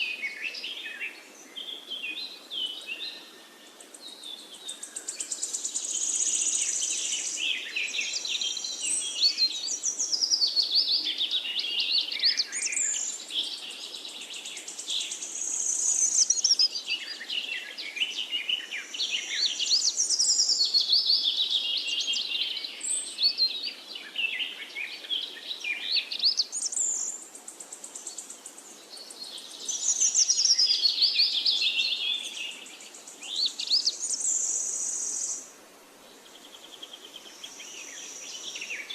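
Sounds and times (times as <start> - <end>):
birds singing: 0.0 - 35.5, 36.1 - 38.9
steady high-pitched hiss: 0.0 - 38.9.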